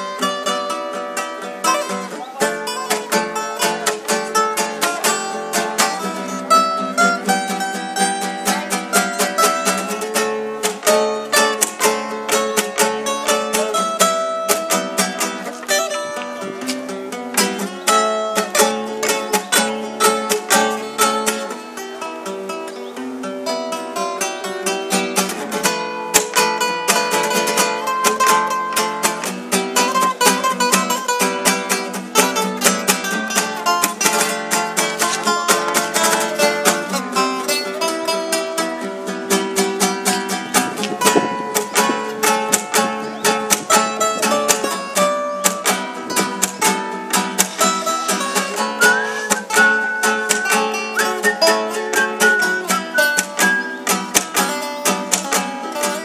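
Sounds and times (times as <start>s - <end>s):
acoustic guitars playing: 0.0s - 56.0s.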